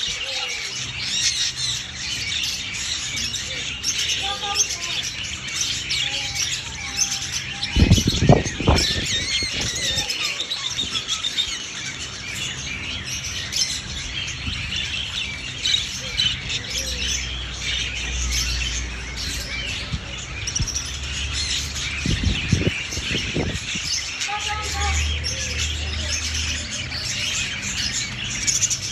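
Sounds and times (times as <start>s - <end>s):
budgerigars chirping: 0.0s - 28.9s.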